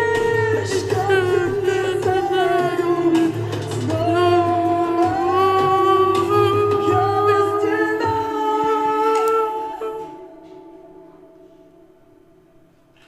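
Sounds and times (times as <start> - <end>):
low accompaniment: 0.0 - 13.0.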